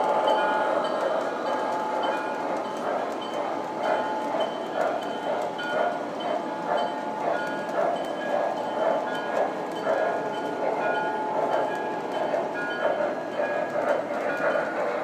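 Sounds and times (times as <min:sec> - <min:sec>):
model steam locomotive chuffing: 0:00.0 - 0:15.0
model train wheels clicking: 0:00.0 - 0:15.0.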